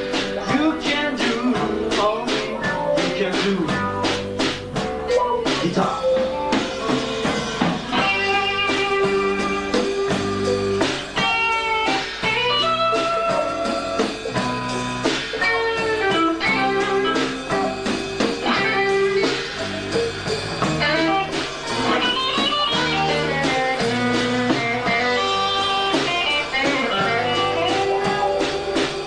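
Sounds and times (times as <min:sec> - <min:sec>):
bass and drums: 0:00.0 - 0:29.0
electric guitar lead: 0:00.0 - 0:29.0.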